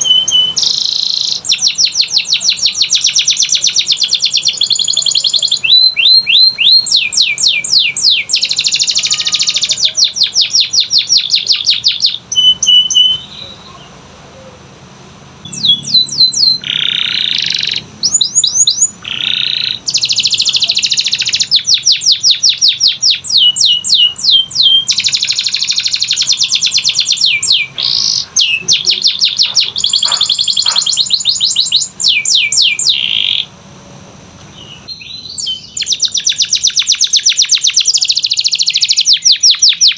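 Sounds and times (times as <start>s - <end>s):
canary singing: 0.0s - 33.6s, 34.4s - 39.9s.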